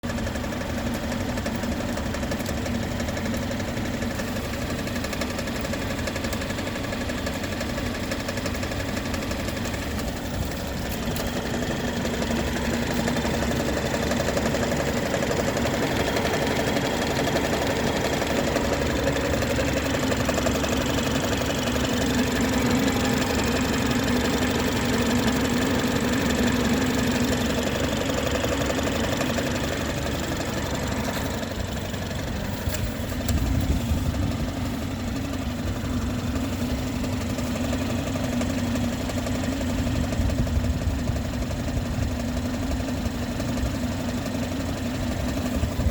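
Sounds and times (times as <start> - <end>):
car engine knocking: 0.0 - 45.9.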